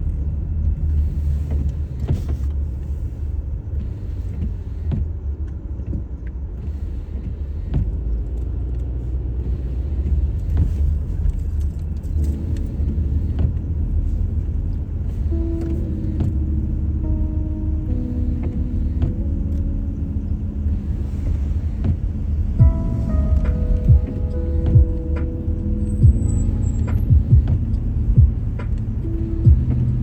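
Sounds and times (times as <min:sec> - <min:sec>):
car rumbling on snowy road: 0:00.0 - 0:30.0.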